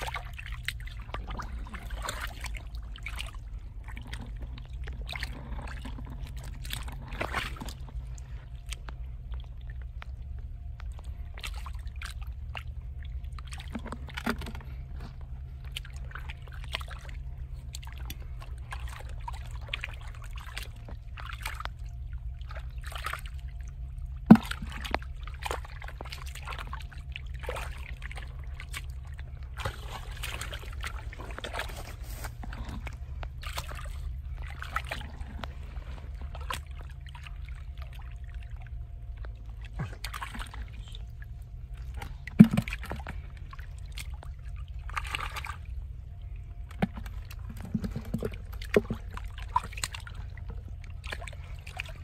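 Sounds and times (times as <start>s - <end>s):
hands splashing in muddy water: 0.0s - 52.0s
steady low hum: 0.0s - 52.0s.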